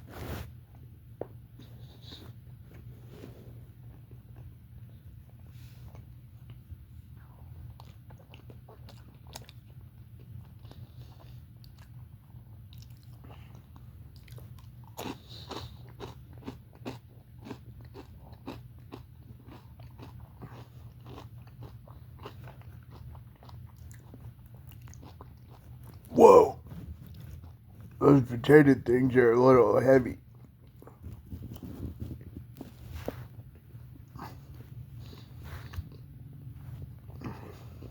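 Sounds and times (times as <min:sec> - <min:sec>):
person chewing crunchy food: 0:03.0 - 0:28.4, 0:30.2 - 0:37.9.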